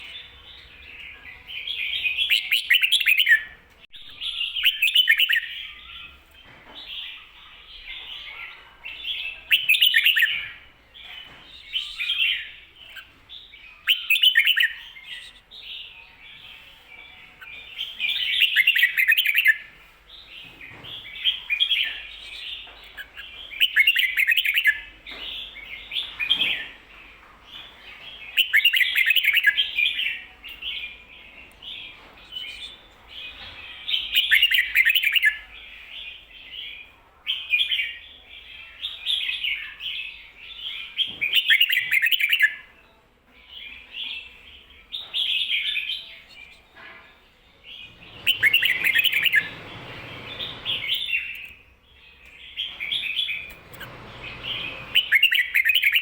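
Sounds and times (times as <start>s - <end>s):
bird warbling song: 0.0s - 42.7s, 47.6s - 56.0s.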